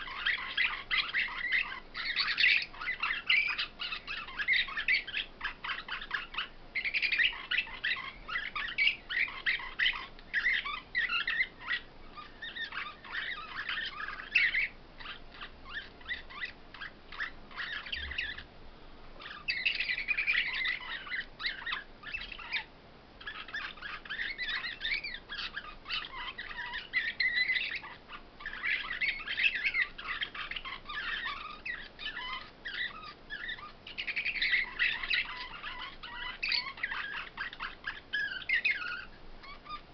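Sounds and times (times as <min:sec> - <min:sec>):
finches twittering song: 0:00.0 - 0:18.5, 0:19.2 - 0:39.9.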